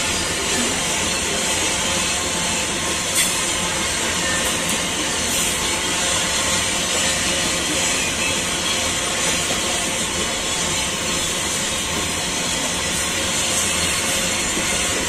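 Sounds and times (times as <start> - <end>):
freight train wheels rolling: 0.0 - 15.0.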